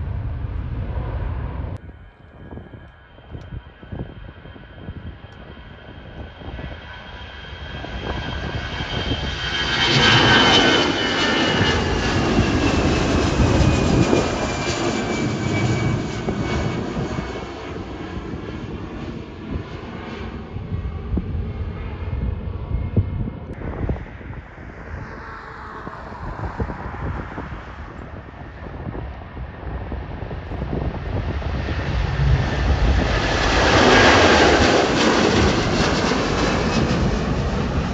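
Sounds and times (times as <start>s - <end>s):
jet airliner engine whine: 0.0s - 37.9s.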